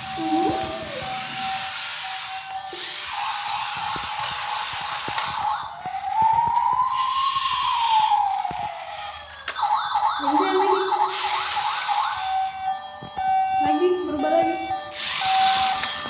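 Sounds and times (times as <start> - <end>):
fast warbling siren: 0.0 - 16.0
toy siren wailing: 0.0 - 16.0.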